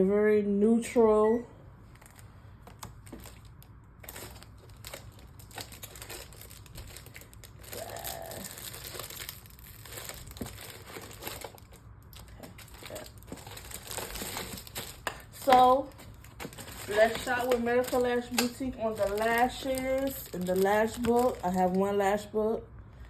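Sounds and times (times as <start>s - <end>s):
packaging crinkling: 1.9s - 22.0s.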